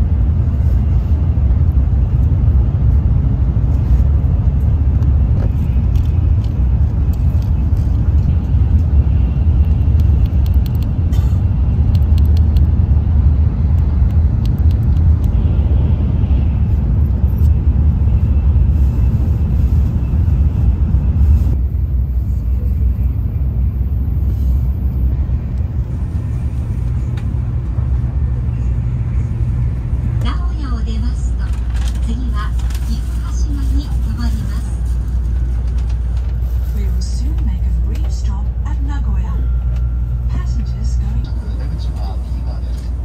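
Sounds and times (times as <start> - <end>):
train cabin rumble: 0.0 - 43.0.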